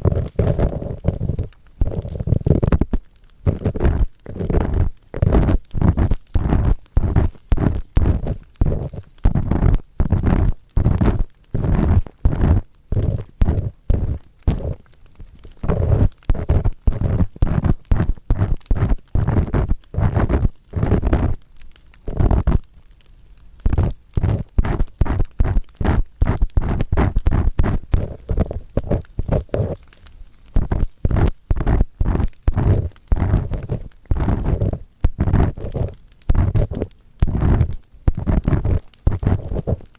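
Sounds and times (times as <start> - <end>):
earpick scraping microphone: 0.0 - 14.9, 15.6 - 21.4, 22.1 - 22.7, 23.7 - 39.9.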